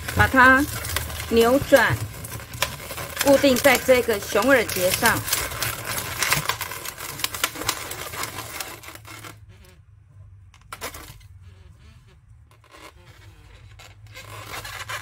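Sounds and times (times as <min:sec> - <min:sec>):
balloons rubbing and squeaking: 0:00.0 - 0:15.0.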